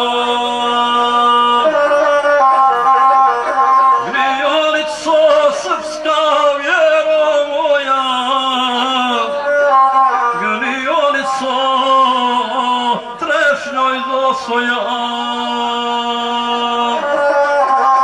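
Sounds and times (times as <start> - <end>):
bowed single-string fiddle: 0.0 - 18.0
man singing held bending notes: 0.0 - 18.0.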